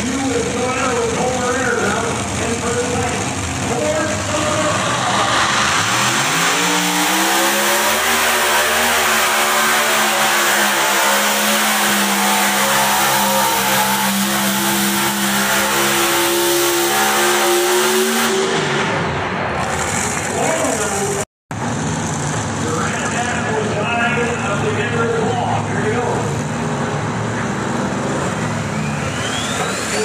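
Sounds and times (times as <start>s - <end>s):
engine revving at full throttle: 0.0s - 23.3s, 27.9s - 30.0s.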